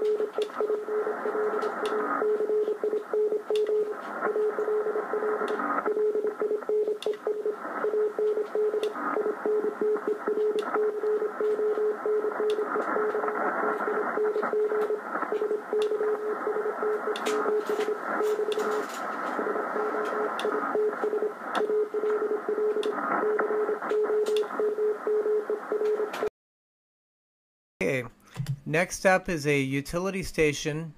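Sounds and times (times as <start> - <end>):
morse code beat tone: 0.0 - 25.9
receiver hiss: 0.0 - 26.3
static crackles: 0.0 - 26.3.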